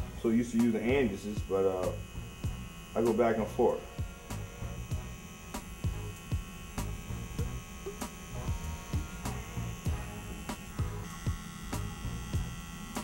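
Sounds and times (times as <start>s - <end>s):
hair trimmer buzzing: 0.0s - 13.0s.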